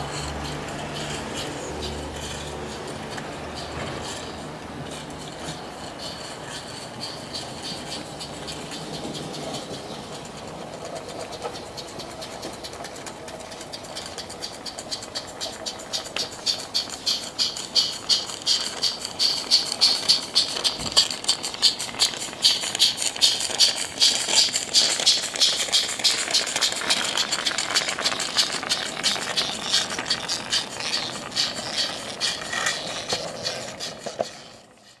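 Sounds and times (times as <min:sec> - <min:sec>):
steam hiss: 0:00.0 - 0:35.0
steam locomotive chuffing: 0:00.0 - 0:35.0
wheels rattling on track: 0:00.0 - 0:35.0.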